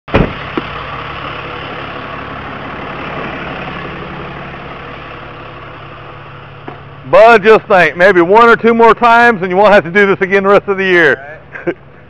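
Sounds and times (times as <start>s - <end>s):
truck engine running: 0.1s - 12.0s.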